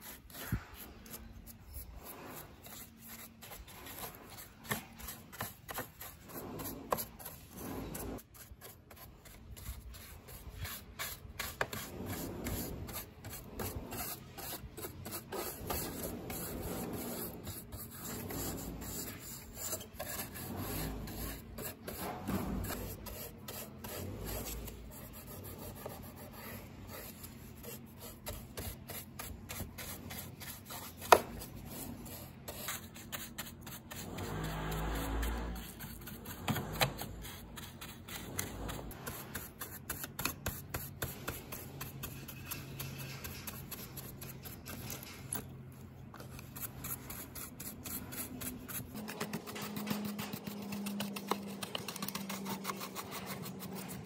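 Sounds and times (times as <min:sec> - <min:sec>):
paintbrush scrubbing: 0:00.0 - 0:54.0.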